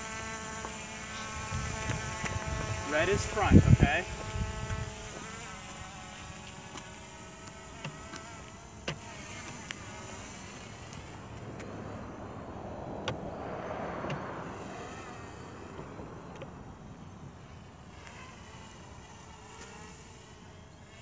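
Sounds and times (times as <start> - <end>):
quadcopter motors buzzing: 0.0 - 21.0.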